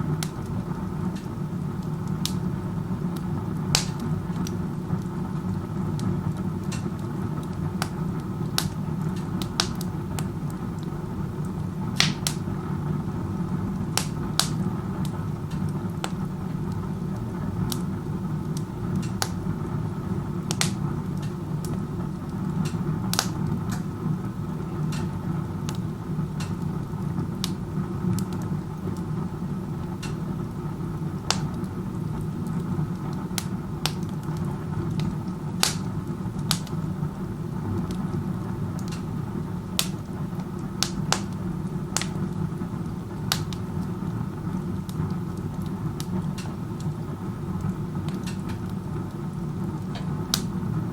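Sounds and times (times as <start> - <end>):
burning wood crackling and popping: 0.0 - 50.9.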